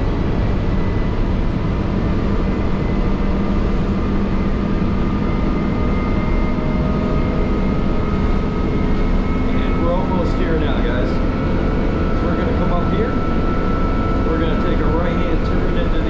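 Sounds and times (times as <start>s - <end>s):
bus engine and road rumble: 0.0s - 16.0s
faint whine: 0.0s - 16.0s.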